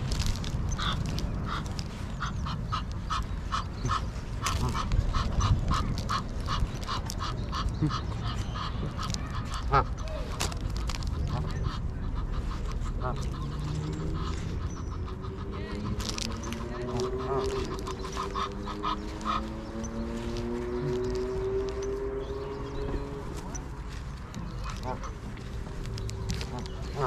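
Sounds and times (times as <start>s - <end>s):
ducks quacking: 0.0s - 27.0s.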